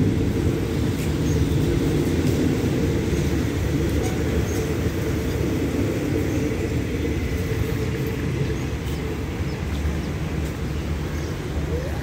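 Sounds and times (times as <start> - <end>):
train coaches rumbling on rails: 0.0 - 12.0.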